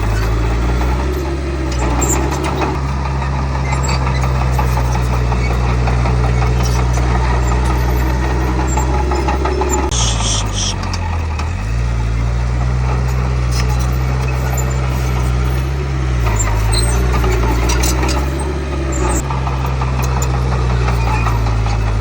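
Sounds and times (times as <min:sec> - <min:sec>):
bulldozer diesel engine: 0:00.0 - 0:22.0.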